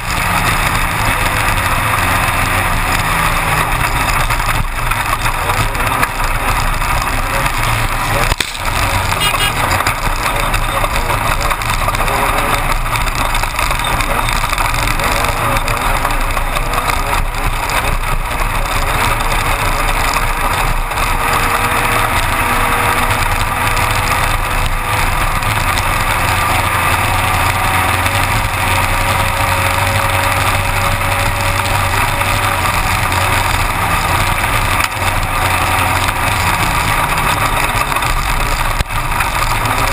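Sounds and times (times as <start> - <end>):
buggy engine running: 0.0 - 39.9
wind and chassis noise: 0.0 - 39.9.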